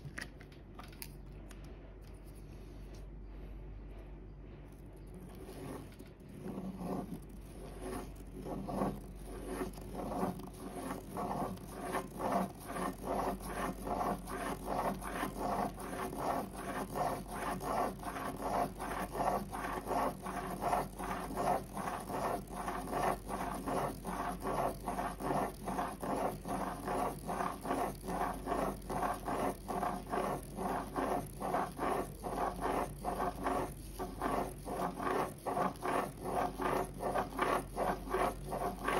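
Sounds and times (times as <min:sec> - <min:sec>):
pen scratching paper: 0:05.0 - 0:38.9.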